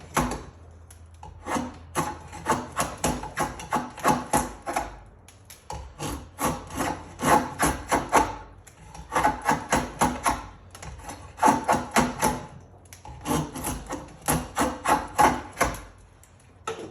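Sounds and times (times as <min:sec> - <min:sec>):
drawknife shaving wood: 0:00.0 - 0:00.6, 0:01.2 - 0:16.0.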